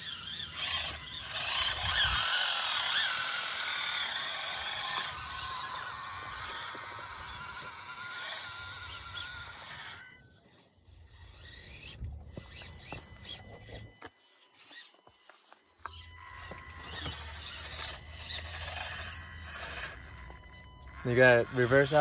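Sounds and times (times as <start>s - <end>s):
small electric motor whining: 0.0s - 22.0s
tyres scraping on stone: 0.0s - 22.0s.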